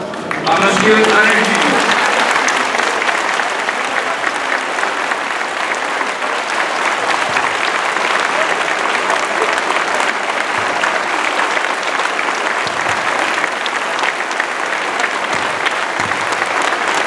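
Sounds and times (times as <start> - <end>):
large crowd clapping: 0.0 - 17.0.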